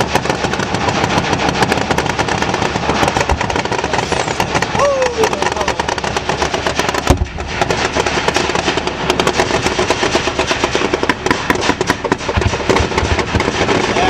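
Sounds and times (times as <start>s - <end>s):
low thumps: 0.0s - 14.0s
rapid gunfire: 0.0s - 14.0s.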